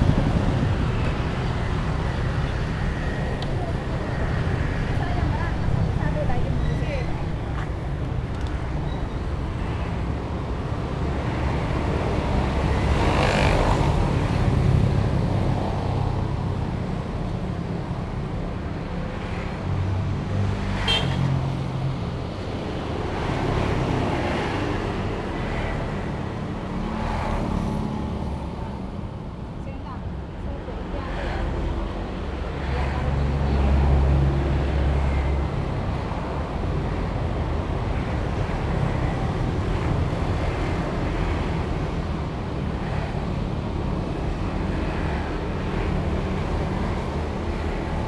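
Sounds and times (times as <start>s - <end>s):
road traffic rumble: 0.0s - 48.0s
vehicles passing: 0.0s - 48.0s.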